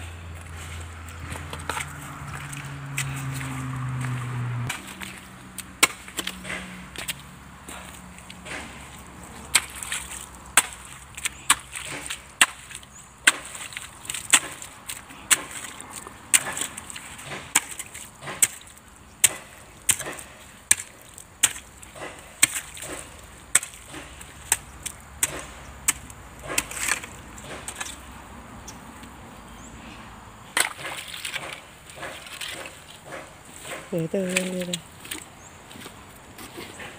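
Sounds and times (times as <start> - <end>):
hoe scraping wet gravelly clay: 0.0 - 36.9.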